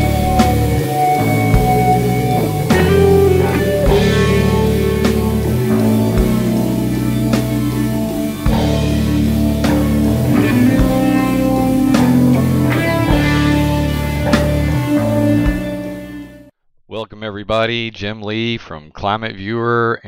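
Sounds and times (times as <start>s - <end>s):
rock music with guitar and drums: 0.0s - 16.5s.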